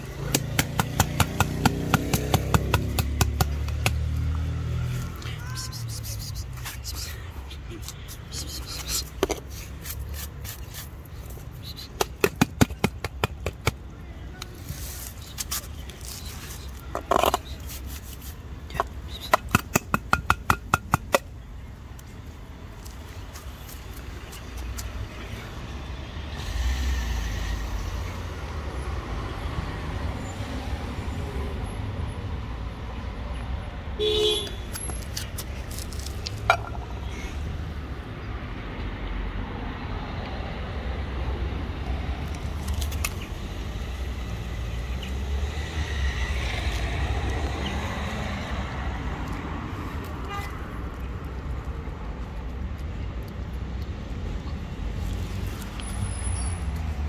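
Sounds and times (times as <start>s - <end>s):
cars passing: 0.0s - 57.0s.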